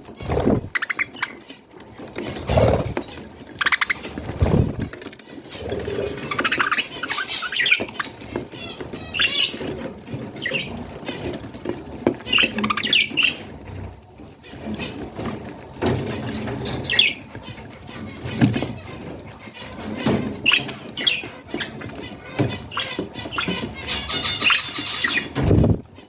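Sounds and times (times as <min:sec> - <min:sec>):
budgerigars chirping and squawking: 0:00.0 - 0:26.0.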